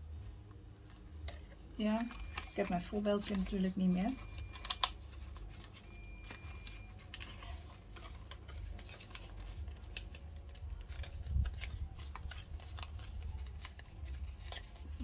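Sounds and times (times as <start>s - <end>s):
stiff paper crackling and rustling: 0.2s - 15.0s.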